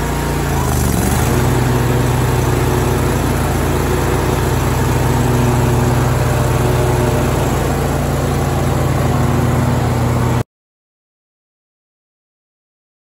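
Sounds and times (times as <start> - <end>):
mower engine running: 0.0 - 10.4.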